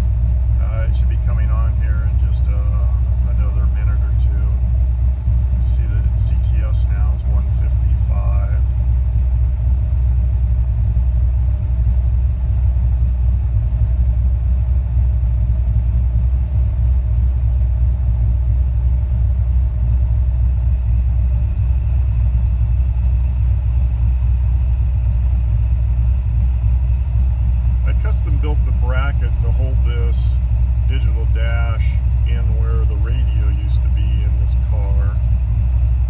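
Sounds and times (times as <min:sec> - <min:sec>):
engine idling with deep rumble: 0:00.0 - 0:36.0.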